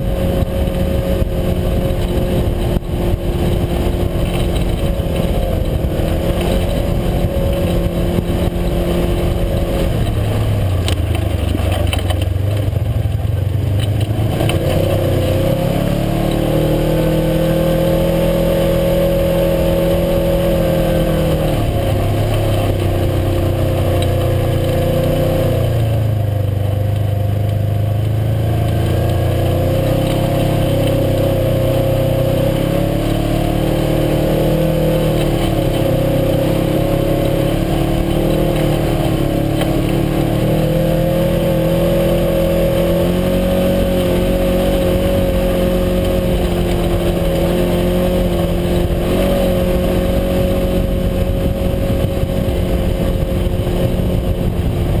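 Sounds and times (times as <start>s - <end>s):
road and wind noise: 0.0s - 55.0s
vehicle engine revving: 0.0s - 55.0s.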